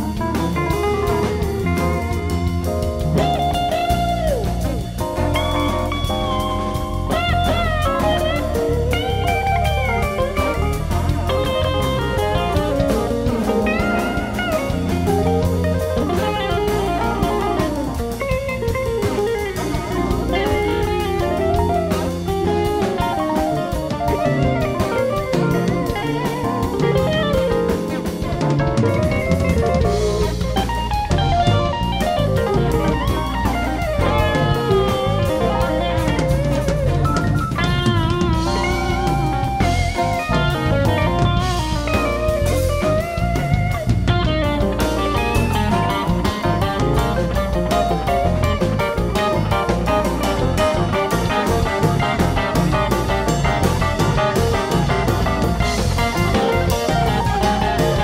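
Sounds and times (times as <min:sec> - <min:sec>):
bass guitar: 0:00.0 - 0:58.0
drum kit: 0:00.0 - 0:58.0
electric guitar lead lines: 0:00.0 - 0:58.0.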